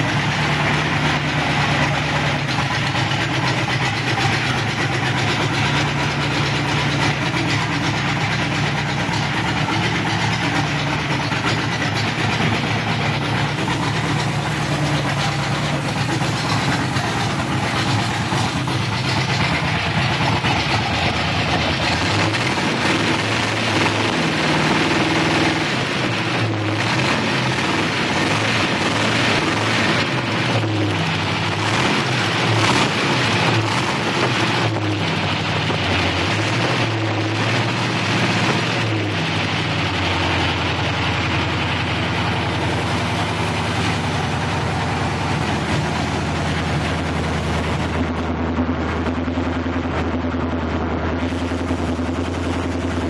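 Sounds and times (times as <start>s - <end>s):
car engine revving and idling: 0.0s - 53.0s.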